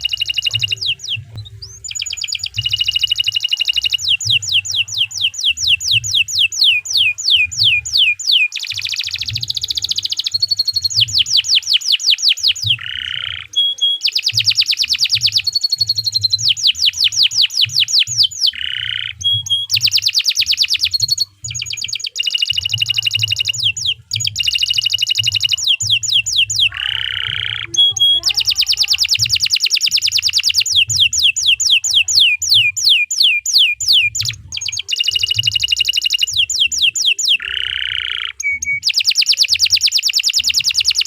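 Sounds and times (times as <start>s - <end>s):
canary singing trills: 0.0s - 41.0s.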